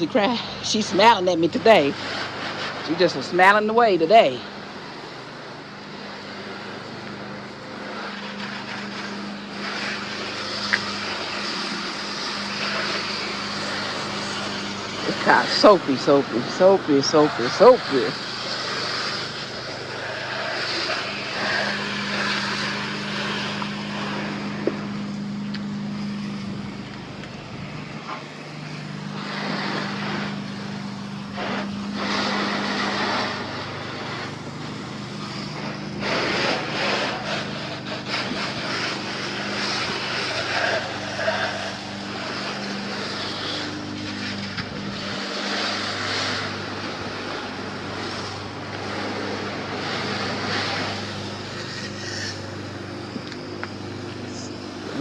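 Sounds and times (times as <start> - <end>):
hose spray hissing: 0.0 - 55.0
steady low hum: 0.0 - 55.0.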